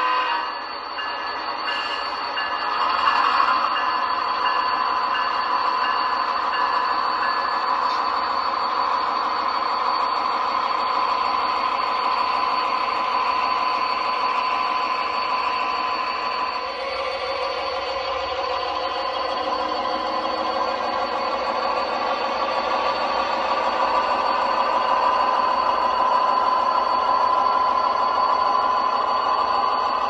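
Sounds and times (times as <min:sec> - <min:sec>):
locomotive bell ringing: 0:00.0 - 0:30.0
model trains rolling: 0:00.0 - 0:30.0.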